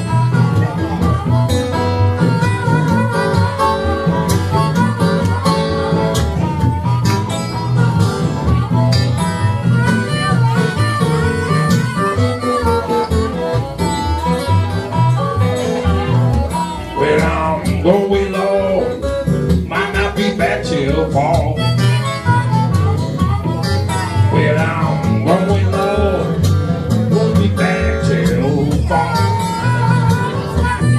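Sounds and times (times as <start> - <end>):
acoustic blues guitar: 0.0 - 30.9.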